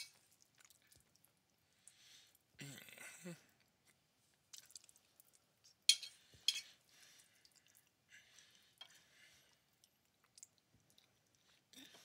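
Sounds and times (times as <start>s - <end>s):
wet chewing and smacking: 0.0s - 2.5s, 3.6s - 12.0s.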